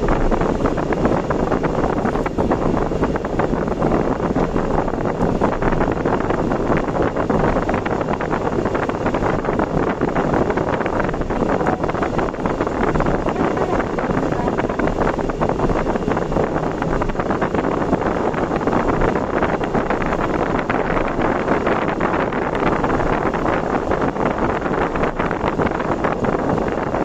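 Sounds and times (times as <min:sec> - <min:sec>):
rushing wind and road noise: 0:00.0 - 0:27.0
wind buffeting microphone: 0:00.0 - 0:27.0.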